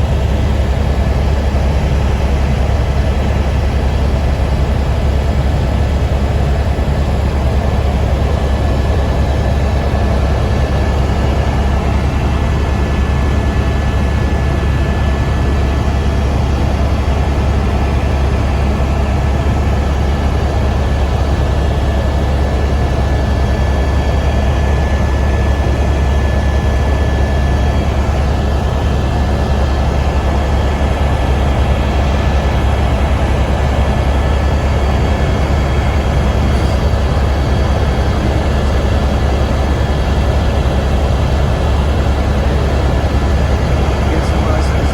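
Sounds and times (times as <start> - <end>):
helicopter rotor drone: 0.0 - 44.9.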